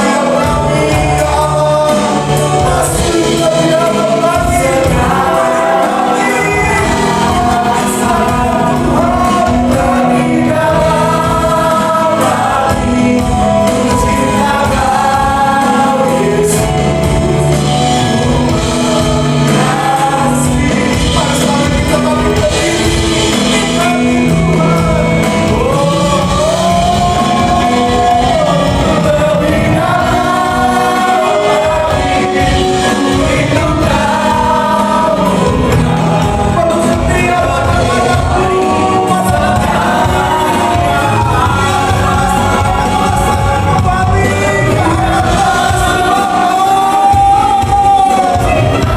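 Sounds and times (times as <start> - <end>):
band playing a steady beat: 0.0 - 48.9
voices singing worship music: 0.0 - 48.9.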